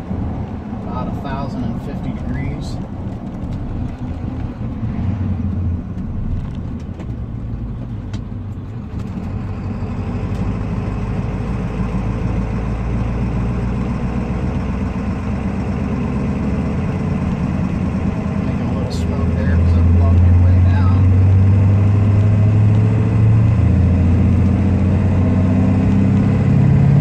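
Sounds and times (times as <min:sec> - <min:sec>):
diesel truck engine under load: 0:00.0 - 0:27.0.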